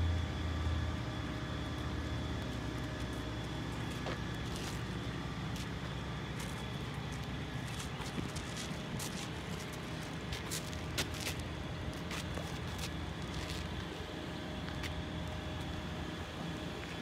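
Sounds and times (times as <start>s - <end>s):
crane engine droning: 0.0s - 17.0s.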